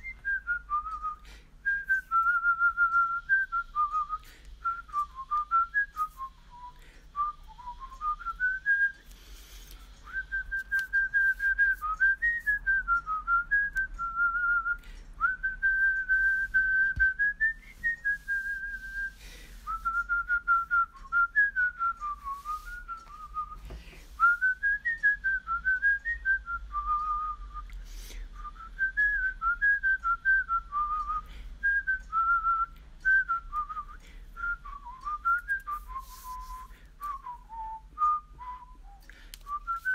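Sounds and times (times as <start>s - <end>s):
person whistling a tune: 0.0s - 39.9s.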